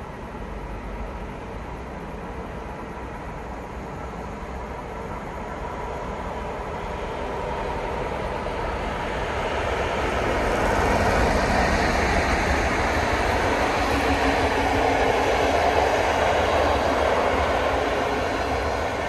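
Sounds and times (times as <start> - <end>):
diesel locomotive engine: 0.0 - 19.0.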